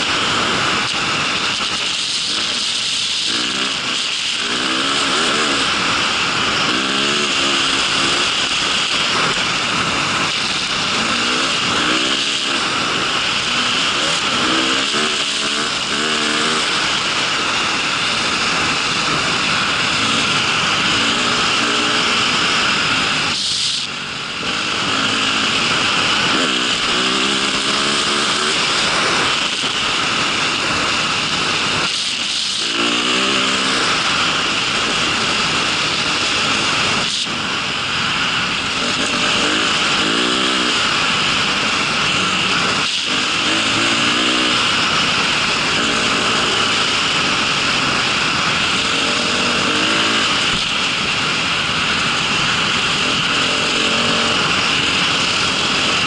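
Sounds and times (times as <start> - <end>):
rush of wind: 0.0 - 56.0
vehicle engine revving: 0.0 - 56.0.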